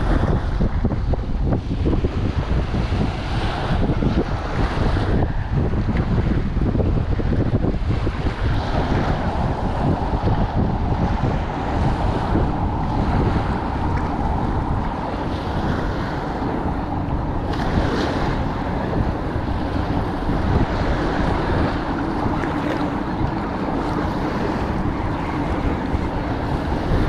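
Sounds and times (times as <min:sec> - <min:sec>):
small waves washing on shore: 0:00.0 - 0:27.0
wind buffeting microphone: 0:00.0 - 0:27.0.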